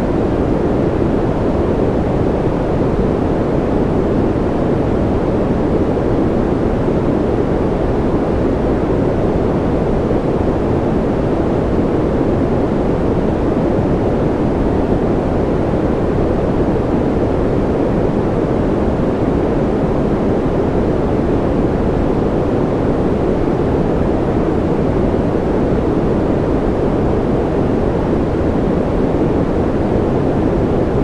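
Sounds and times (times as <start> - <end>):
white noise hiss: 0.0 - 31.0.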